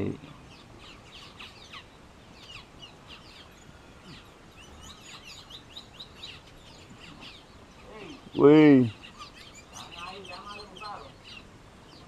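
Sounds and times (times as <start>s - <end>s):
faint background hiss: 0.0s - 12.0s
small birds chirping: 0.0s - 12.0s.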